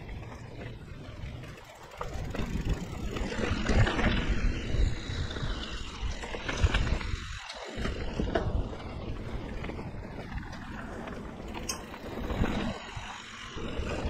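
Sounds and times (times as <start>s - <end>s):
bike rattling over bumps: 0.0s - 14.0s
bike tyres rolling on dirt trail: 0.0s - 14.0s.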